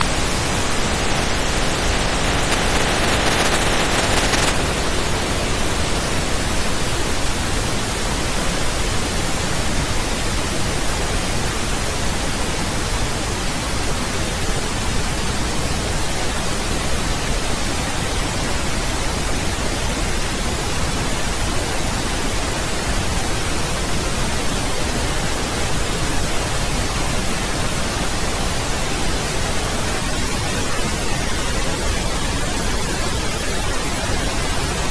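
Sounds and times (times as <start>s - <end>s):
pink noise hiss: 0.0s - 34.9s.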